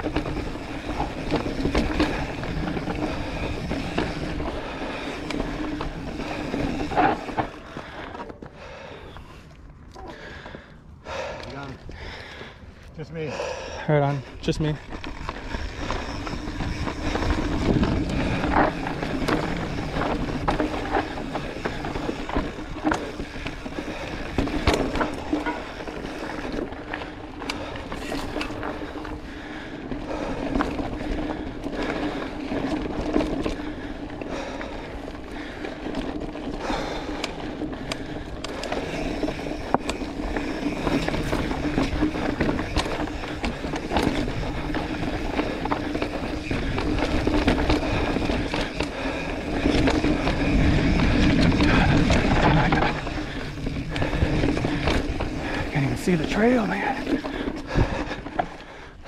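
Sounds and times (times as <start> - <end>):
bike clicks and rattles: 0.0 - 59.0
bike tyres on loose dirt: 0.0 - 59.0.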